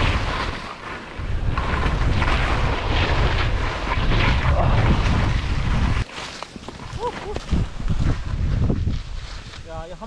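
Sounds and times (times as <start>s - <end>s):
skis scraping through snow: 0.0s - 10.0s
wind buffeting microphone: 1.2s - 6.0s, 6.8s - 10.0s.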